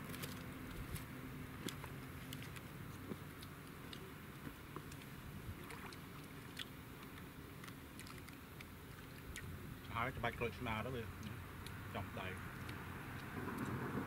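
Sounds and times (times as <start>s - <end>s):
distant engine hum: 0.0s - 14.0s.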